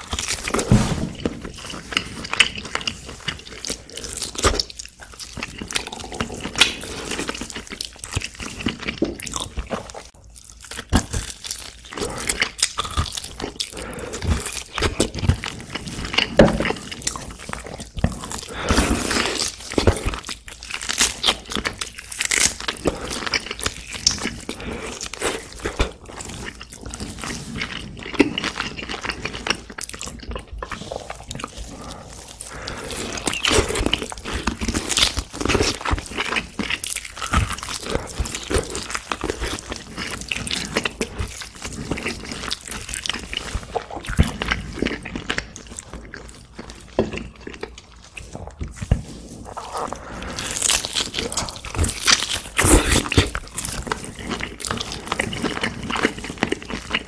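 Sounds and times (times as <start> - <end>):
wet chewing and mouth smacking: 0.0 - 57.0.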